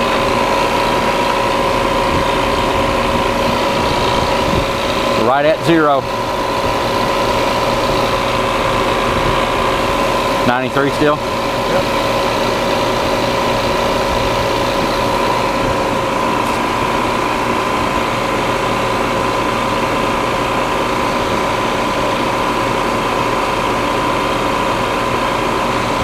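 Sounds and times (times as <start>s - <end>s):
compressor humming and whining: 0.0s - 26.0s.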